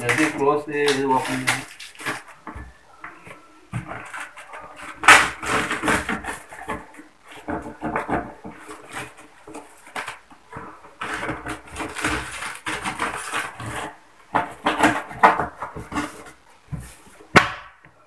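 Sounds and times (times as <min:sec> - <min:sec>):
tape ripping: 0:00.0 - 0:02.5, 0:04.0 - 0:16.4.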